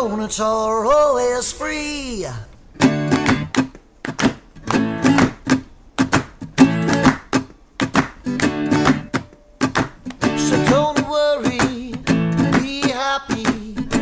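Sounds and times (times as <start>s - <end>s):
acoustic guitar strumming chords: 0.8s - 14.0s.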